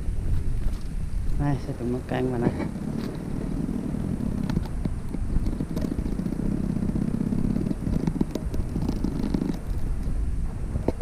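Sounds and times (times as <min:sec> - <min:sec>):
cicada buzzing: 0:01.1 - 0:11.0.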